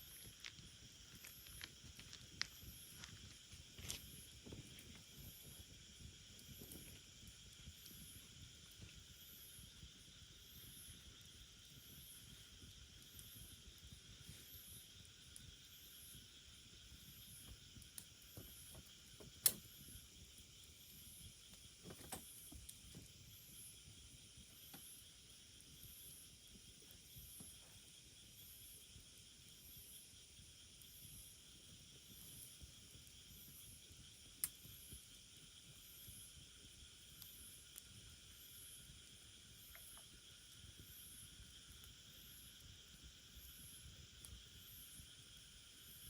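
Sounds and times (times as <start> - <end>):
bonfire wood popping: 0.0 - 25.0, 30.6 - 46.0
high insect chirp: 0.0 - 46.0
insects trilling: 0.0 - 46.0.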